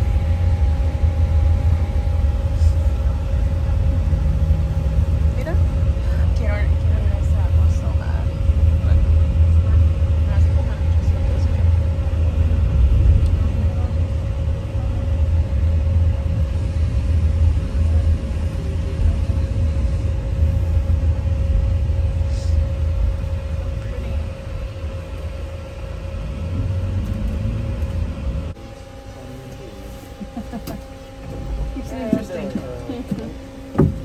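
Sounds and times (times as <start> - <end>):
engine and road rumble: 0.0 - 34.0
steady hum: 0.0 - 34.0.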